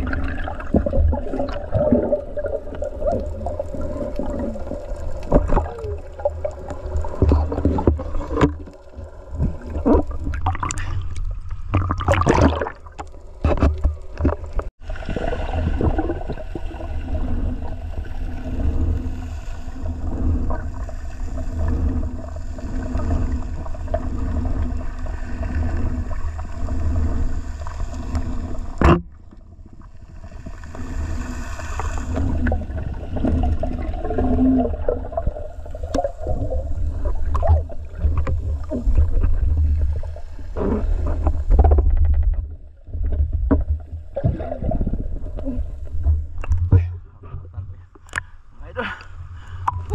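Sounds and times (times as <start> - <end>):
underwater rumble of moving water: 0.0 - 49.9.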